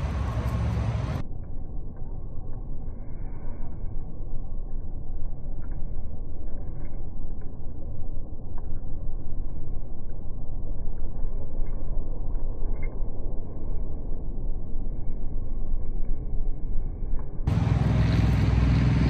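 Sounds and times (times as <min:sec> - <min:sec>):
low outdoor rumbling: 0:00.0 - 0:19.0.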